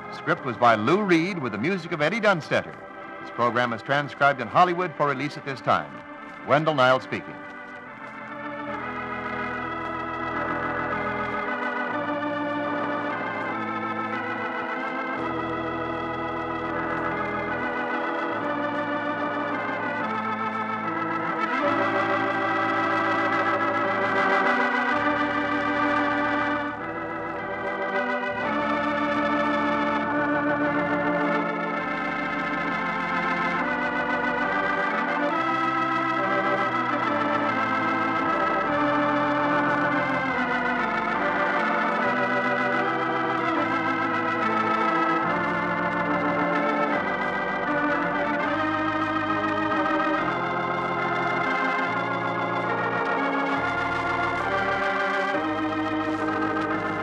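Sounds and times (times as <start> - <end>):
organ playing sustained chords: 0.0 - 57.0.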